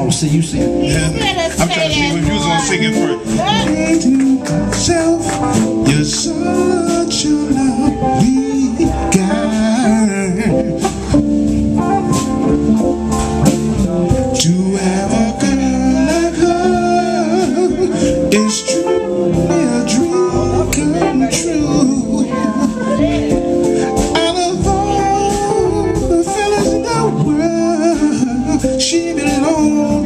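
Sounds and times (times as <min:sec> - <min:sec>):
man singing: 0:00.0 - 0:11.5, 0:14.0 - 0:30.0
bass guitar: 0:00.0 - 0:30.0
drums: 0:00.0 - 0:30.0
electric guitar: 0:00.0 - 0:30.0.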